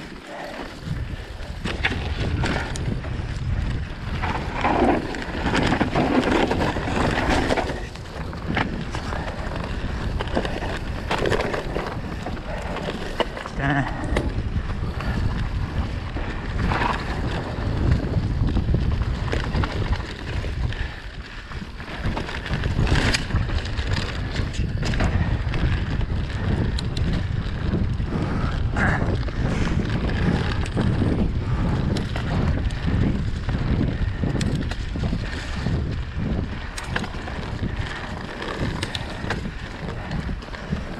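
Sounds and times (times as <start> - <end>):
bike rattling over bumps: 0.0 - 40.9
bike tyre noise: 0.0 - 40.9
wind rumble on microphone: 0.0 - 40.9.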